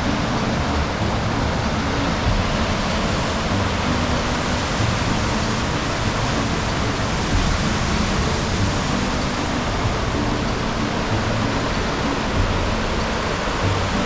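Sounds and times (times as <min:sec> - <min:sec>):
loud rush of river and waterfall: 0:00.0 - 0:14.0.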